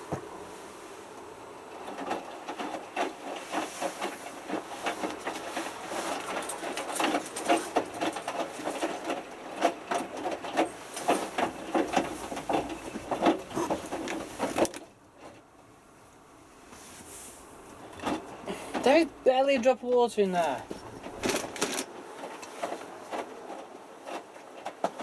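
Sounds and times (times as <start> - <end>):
clothes tumbling in washing machine: 1.0 - 15.6, 16.7 - 25.0.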